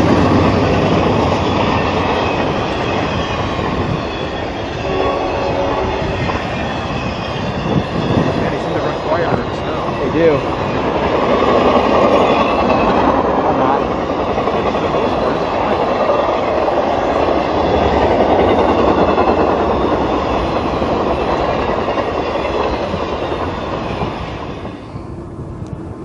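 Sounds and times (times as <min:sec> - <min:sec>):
steel train wheels on rail: 0:00.0 - 0:26.0.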